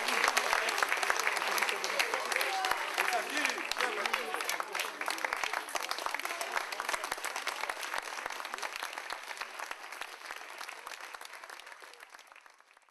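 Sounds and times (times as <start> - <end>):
crowd applause: 0.0 - 12.9.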